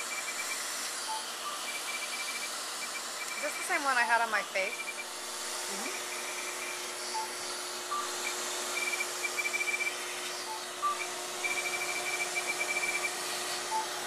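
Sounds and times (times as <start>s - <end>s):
fan-like machine hiss: 0.0s - 14.0s.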